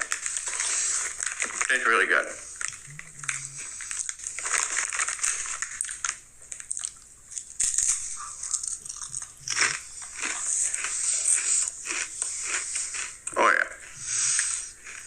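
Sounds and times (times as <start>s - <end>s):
person crunching potato chips: 0.0s - 15.0s.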